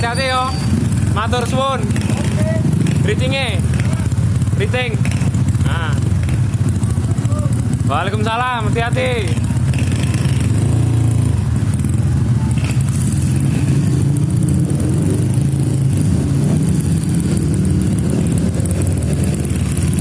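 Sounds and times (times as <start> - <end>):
motorcycles idling: 0.0 - 20.0.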